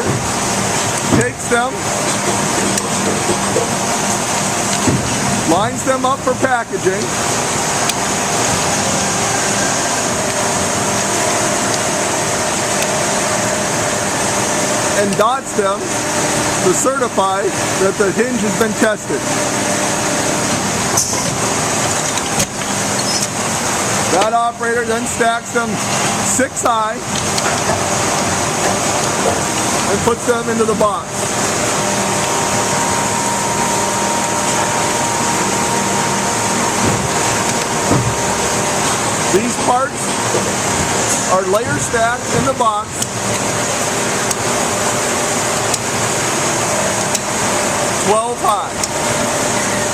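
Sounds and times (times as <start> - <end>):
continuous hiss: 0.0 - 49.9
factory machinery hum: 0.0 - 49.9.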